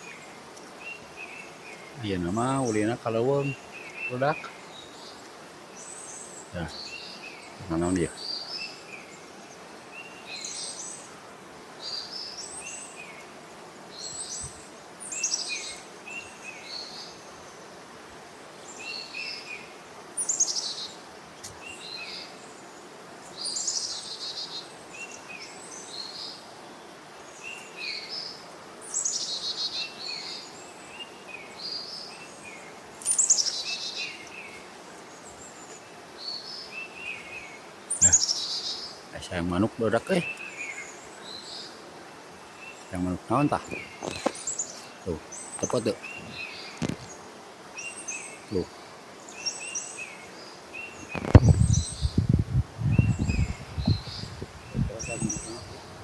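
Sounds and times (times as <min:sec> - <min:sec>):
forest bird calling: 0:00.0 - 0:11.1, 0:13.9 - 0:17.7, 0:18.6 - 0:26.4, 0:27.2 - 0:52.2, 0:52.8 - 0:56.0.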